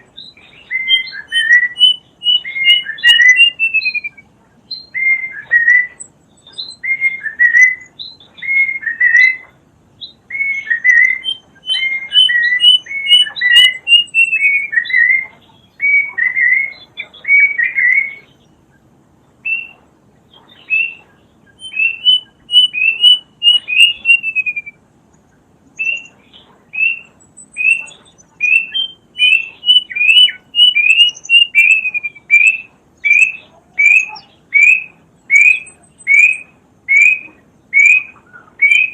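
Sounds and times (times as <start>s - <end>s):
cuckoo whistled song: 0.0s - 18.6s, 19.3s - 24.8s, 25.8s - 38.9s
faint high bird chirps: 0.0s - 38.9s.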